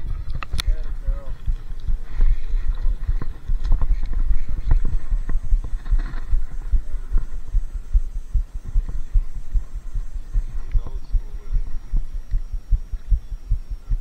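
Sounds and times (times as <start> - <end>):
thumping on microphone: 0.0 - 14.0.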